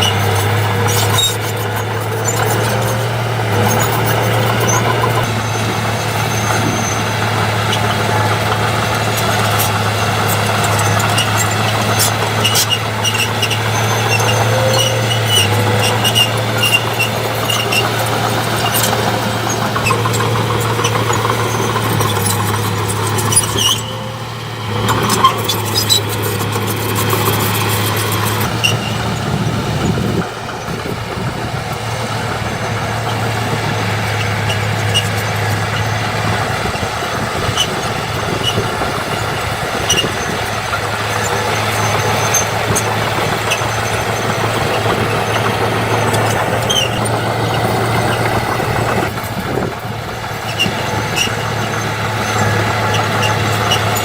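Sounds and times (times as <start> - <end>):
heavy diesel machinery running: 0.0 - 54.0
metal squeaks and clicks: 0.0 - 54.0.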